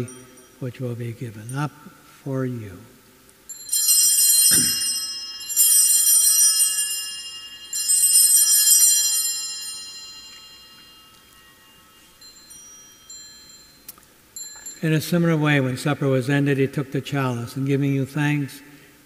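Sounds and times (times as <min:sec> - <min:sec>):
altar bells ringing: 0:00.0 - 0:02.8, 0:03.4 - 0:16.4.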